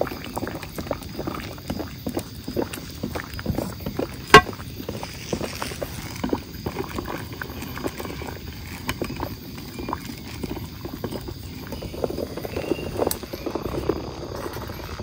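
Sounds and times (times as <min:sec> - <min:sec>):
water boiling in metal tin: 0:00.0 - 0:15.0.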